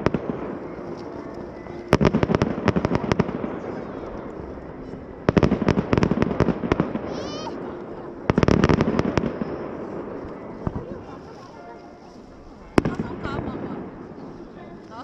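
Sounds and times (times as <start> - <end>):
fireworks crackling bursts: 0.0 - 15.0.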